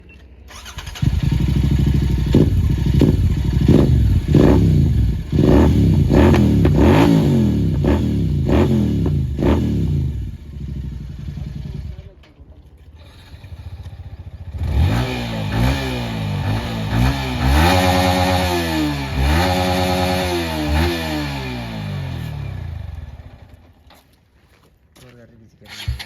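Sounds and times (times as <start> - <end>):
motorcycle engine revving: 0.5 - 23.6, 25.7 - 26.0.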